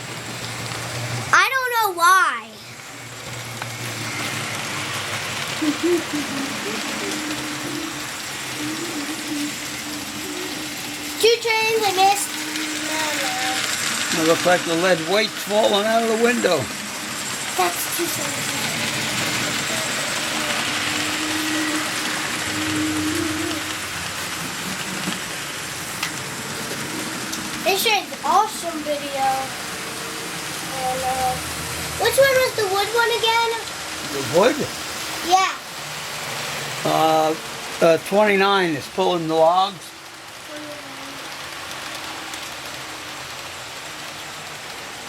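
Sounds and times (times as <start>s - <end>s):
model train wheels hissing on track: 0.0s - 45.0s.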